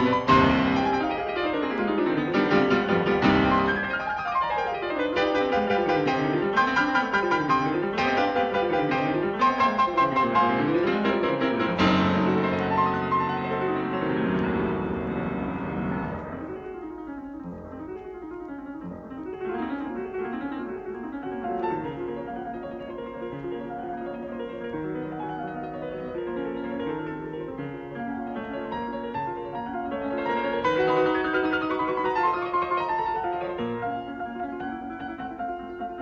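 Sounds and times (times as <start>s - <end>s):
solo piano music: 0.0s - 36.0s.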